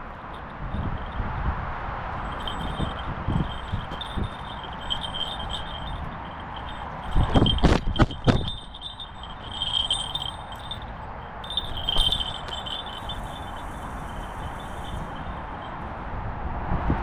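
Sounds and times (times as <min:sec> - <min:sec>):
small bells jingling: 0:00.0 - 0:01.3, 0:02.1 - 0:16.1
steady low rumble: 0:00.0 - 0:16.7.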